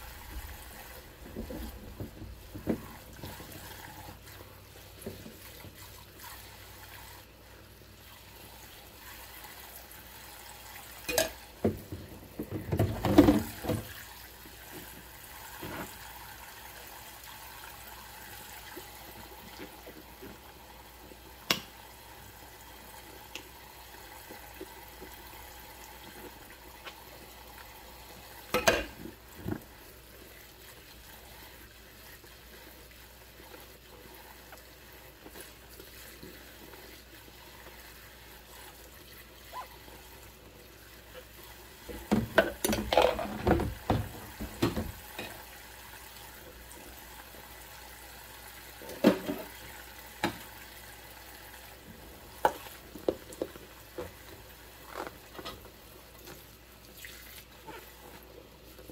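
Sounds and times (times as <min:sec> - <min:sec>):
tap water running into sink: 0:00.0 - 0:07.2, 0:08.3 - 0:58.9.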